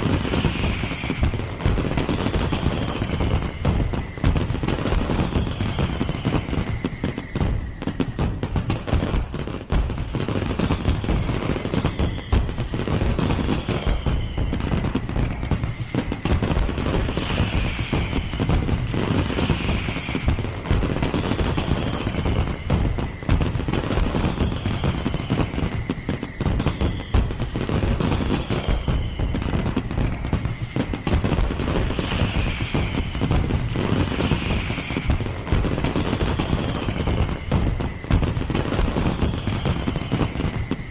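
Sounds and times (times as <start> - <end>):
fireworks banging and crackling: 0.0 - 40.9
high falling whistle: 0.0 - 40.9.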